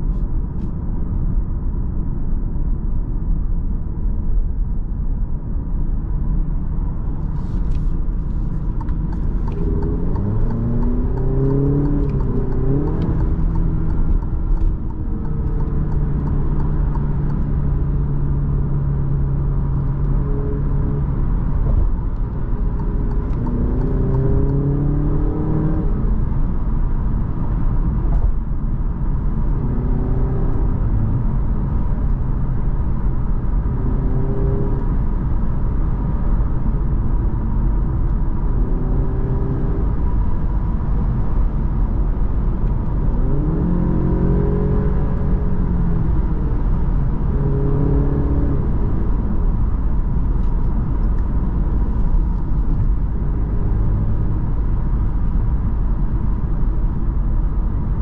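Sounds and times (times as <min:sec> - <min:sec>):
road and tyre rumble: 0:00.0 - 0:58.0
car engine accelerating: 0:06.6 - 0:58.0.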